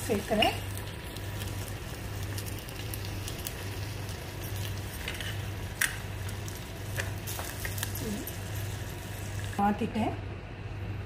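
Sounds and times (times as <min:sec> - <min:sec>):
syrup sizzling: 0:00.0 - 0:09.7.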